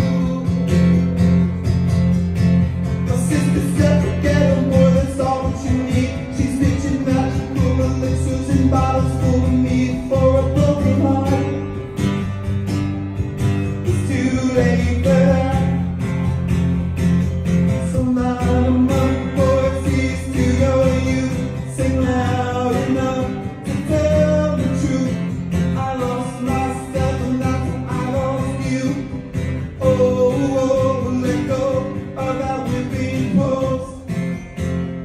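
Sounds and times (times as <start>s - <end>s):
man singing: 0.0s - 1.2s, 2.9s - 12.0s, 13.7s - 16.0s, 17.7s - 34.4s
acoustic guitar strumming: 0.0s - 35.0s.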